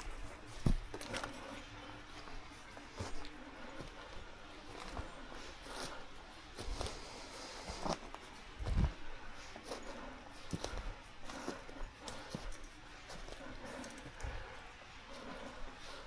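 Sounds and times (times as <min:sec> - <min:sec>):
footsteps on forest floor: 0:00.0 - 0:15.6.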